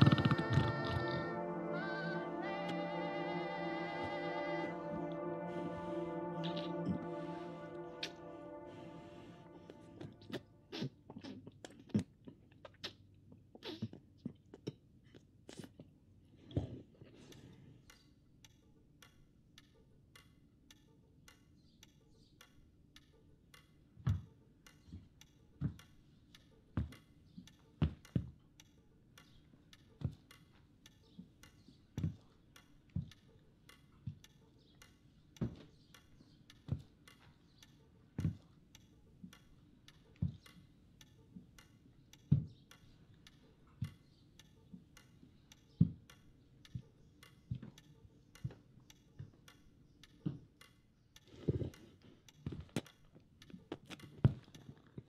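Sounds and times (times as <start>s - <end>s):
clock ticking: 0.0s - 10.6s, 17.3s - 54.8s.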